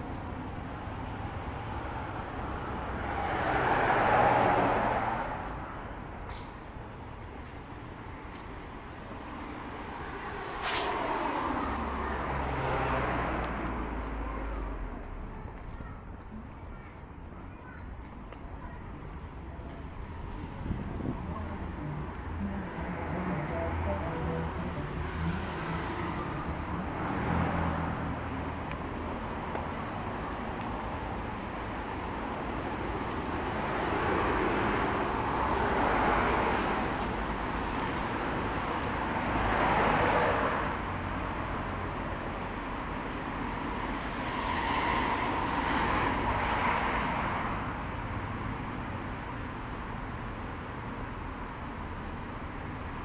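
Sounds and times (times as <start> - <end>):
cars passing: 0.0 - 53.0
low rumble of traffic: 0.0 - 53.0.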